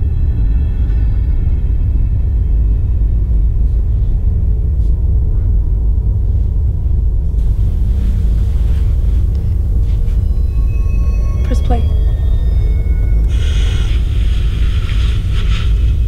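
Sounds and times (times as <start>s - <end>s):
low rumbling suspense drone: 0.0s - 16.0s.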